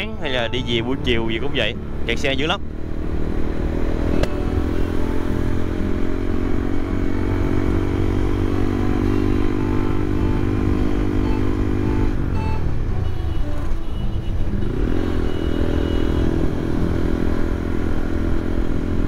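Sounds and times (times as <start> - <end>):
motorcycle engine running: 0.0 - 19.0
road rumble: 0.0 - 19.0.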